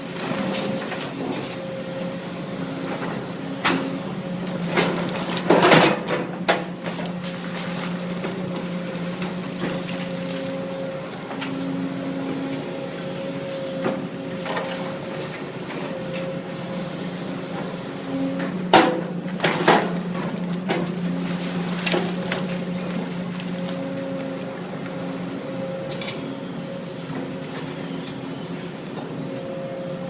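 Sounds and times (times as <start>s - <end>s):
machine engine running: 0.0s - 30.0s.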